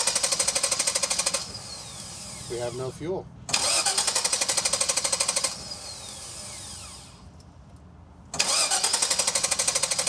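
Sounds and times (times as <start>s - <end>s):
engine cranking on starter: 0.0s - 2.8s, 3.5s - 7.2s, 8.3s - 10.0s.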